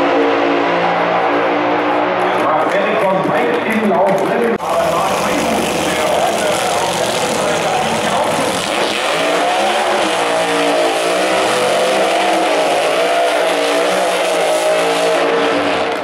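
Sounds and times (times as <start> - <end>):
car engines revving during burnouts: 0.0 - 16.0.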